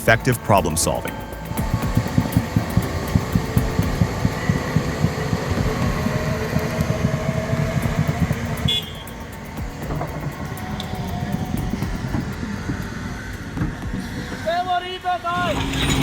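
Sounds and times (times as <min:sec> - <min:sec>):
diesel excavator engine throbbing: 0:00.0 - 0:14.5.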